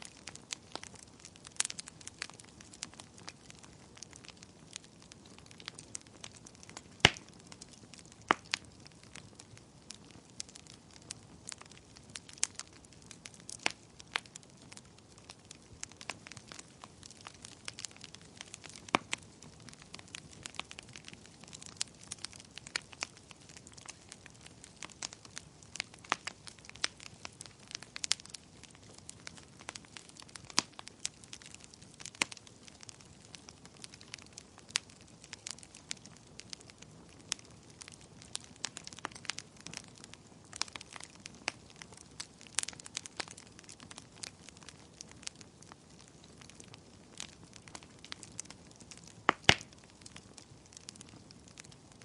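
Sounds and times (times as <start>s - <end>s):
fire crackling: 0.0s - 52.0s.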